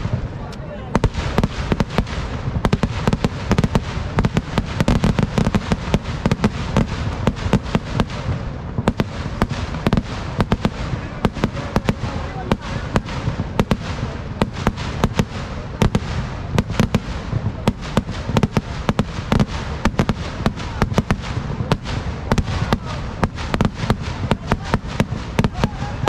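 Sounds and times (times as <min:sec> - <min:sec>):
firecracker bangs: 0:00.0 - 0:26.0.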